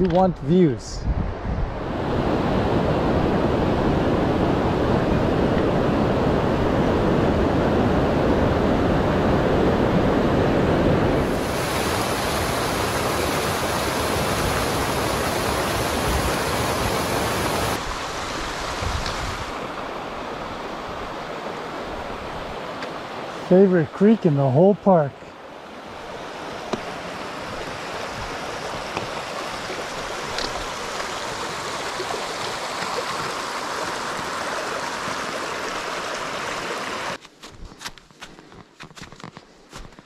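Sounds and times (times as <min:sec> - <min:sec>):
mountain creek rushing: 0:01.8 - 0:37.2.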